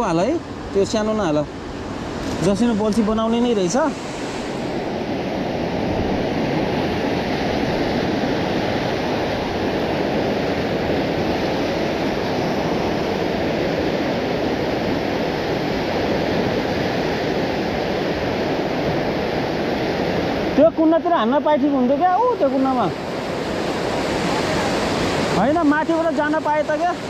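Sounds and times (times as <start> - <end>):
whitewater rapids rushing: 0.7 - 27.0.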